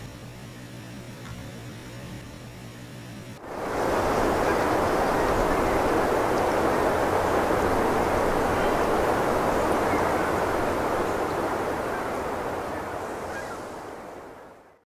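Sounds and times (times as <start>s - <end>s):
steady rushing noise: 2.3s - 14.7s.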